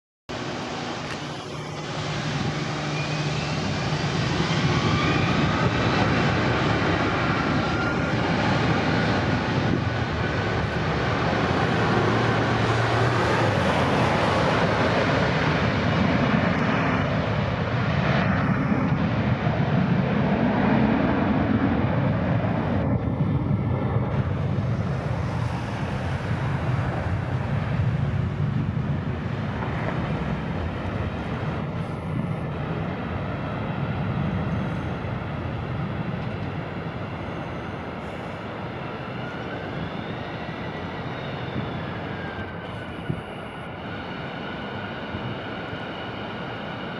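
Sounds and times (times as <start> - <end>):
jet engines roaring: 0.3 - 46.9.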